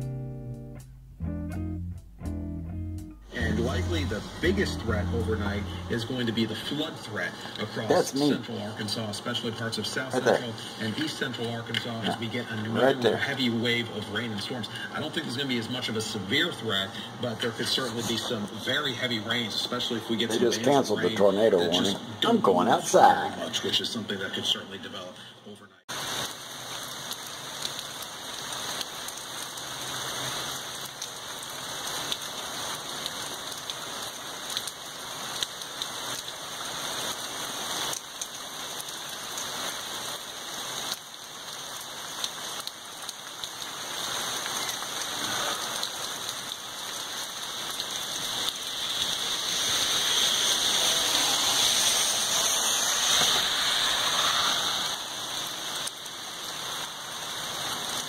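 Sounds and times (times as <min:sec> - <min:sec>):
heavy rain falling: 0:03.2 - 0:24.0, 0:25.9 - 0:58.0.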